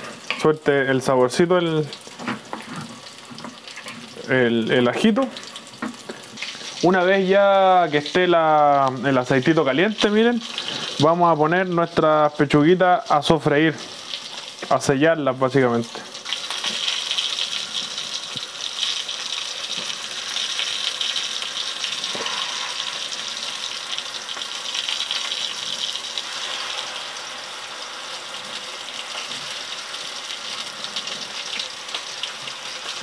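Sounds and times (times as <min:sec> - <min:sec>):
meat sizzling in oil: 0:00.0 - 0:33.0.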